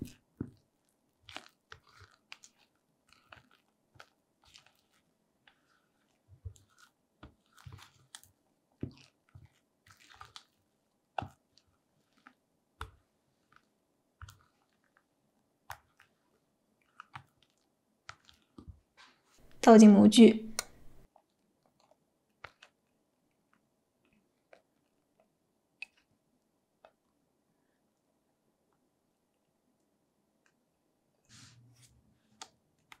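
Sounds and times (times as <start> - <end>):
sticky batter sounds: 0.0 - 27.3.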